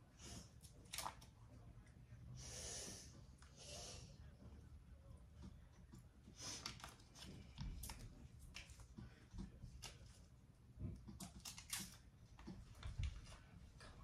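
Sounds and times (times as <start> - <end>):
low room rumble: 0.0 - 14.0.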